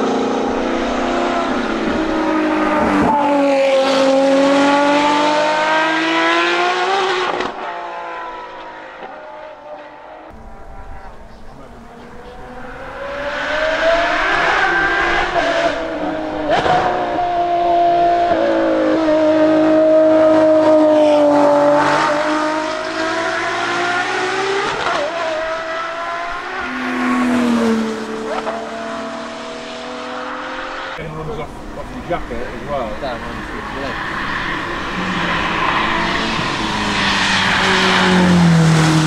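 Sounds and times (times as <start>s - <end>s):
racing car engines accelerating: 0.0s - 39.0s.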